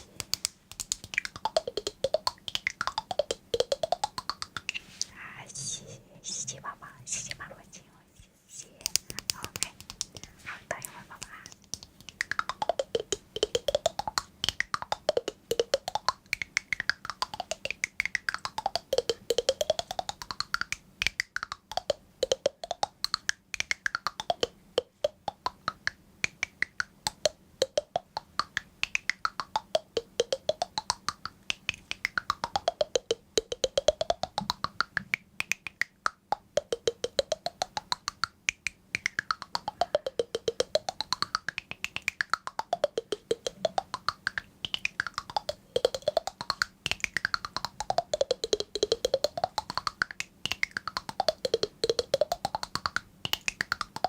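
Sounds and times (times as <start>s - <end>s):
rapid sweeping sharp clicks: 0.0s - 5.1s, 8.8s - 54.0s.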